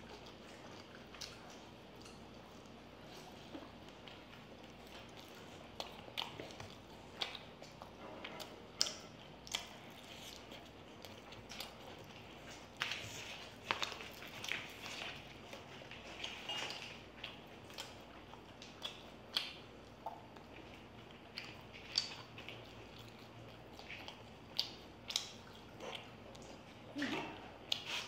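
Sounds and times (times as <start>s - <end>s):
chewing with wet mouth clicks: 0.0s - 28.0s.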